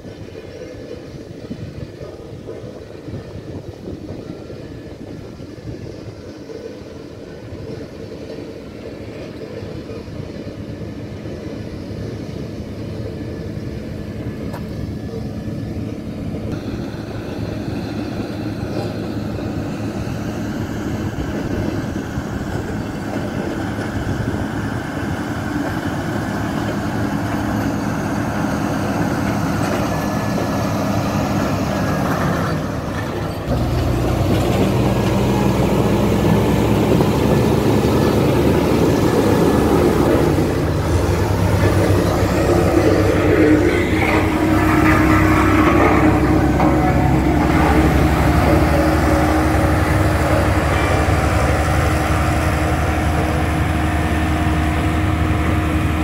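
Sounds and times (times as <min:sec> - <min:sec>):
motor grader diesel engine: 0:00.0 - 0:56.0.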